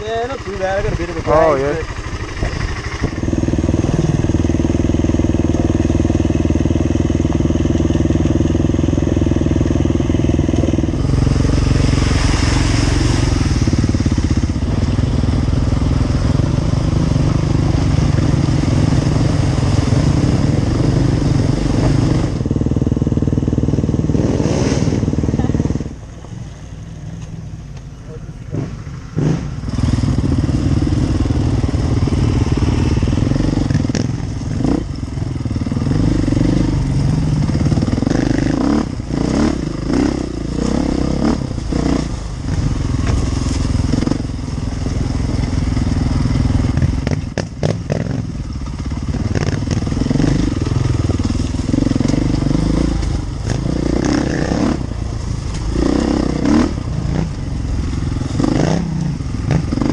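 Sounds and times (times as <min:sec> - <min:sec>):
motorcycle engine revving: 0:00.0 - 0:26.2, 0:28.3 - 0:59.9.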